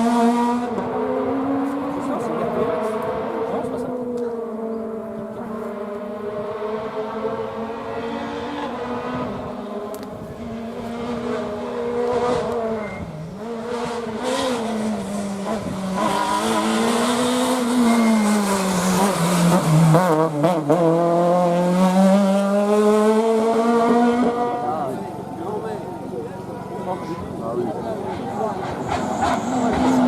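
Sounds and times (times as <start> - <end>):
rally car engine at high revs: 0.0 - 30.0.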